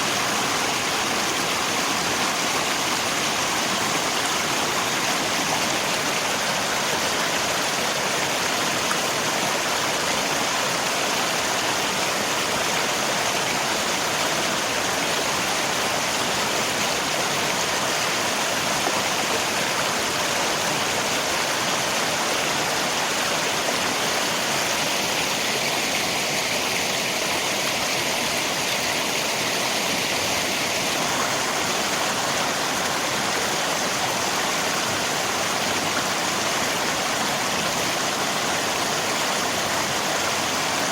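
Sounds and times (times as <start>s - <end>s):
rain: 0.0s - 40.9s
river water flowing: 0.0s - 40.9s.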